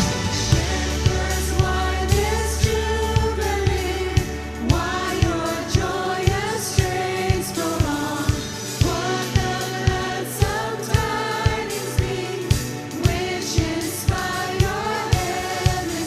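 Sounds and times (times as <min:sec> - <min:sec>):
voices singing with a band: 0:00.0 - 0:16.0.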